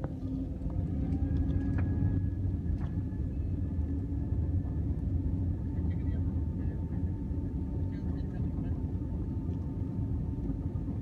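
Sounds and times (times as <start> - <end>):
jet engines and wheels rumbling: 0.0 - 11.0.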